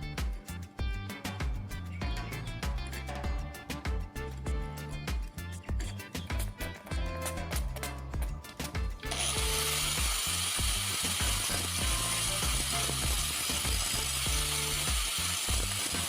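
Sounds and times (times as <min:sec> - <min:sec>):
background music with beat: 0:00.0 - 0:16.0.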